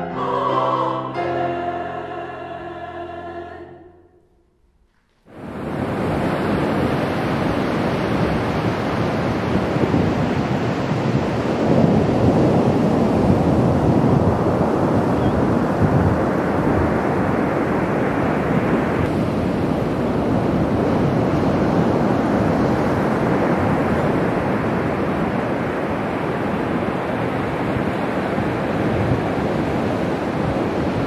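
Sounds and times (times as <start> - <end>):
surf washing on a sandy beach: 5.3 - 31.0
wind buffeting the microphone: 5.3 - 31.0.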